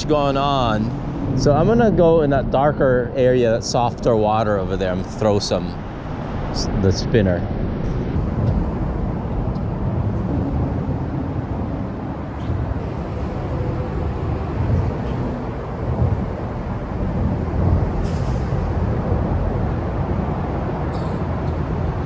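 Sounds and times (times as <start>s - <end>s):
freeway traffic rumble: 0.0s - 22.0s.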